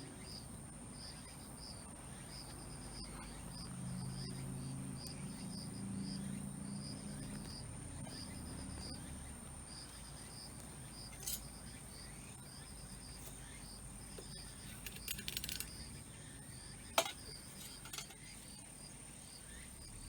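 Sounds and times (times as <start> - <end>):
insects chirping in pulses: 0.1 - 20.0.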